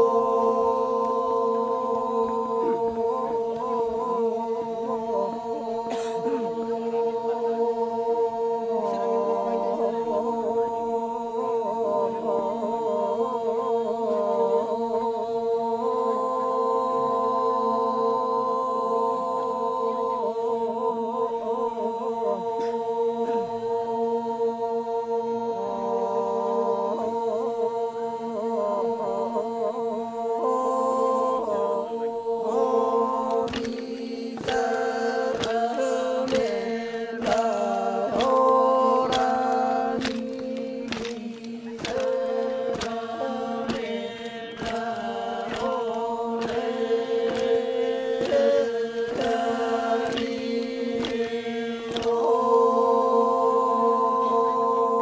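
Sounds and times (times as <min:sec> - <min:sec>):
men chanting unaccompanied: 0:00.0 - 0:55.0.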